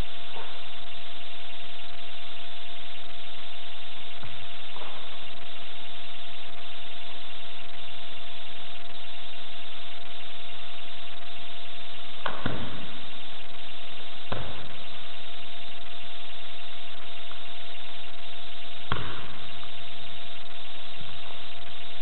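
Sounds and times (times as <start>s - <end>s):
faint steady tone: 0.0s - 22.0s
steady hiss: 0.0s - 22.0s.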